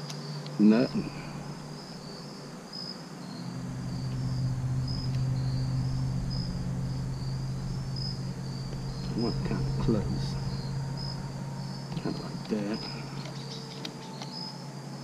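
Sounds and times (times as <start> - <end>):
crickets chirping: 0.0 - 15.0
low engine-like hum: 0.3 - 15.0.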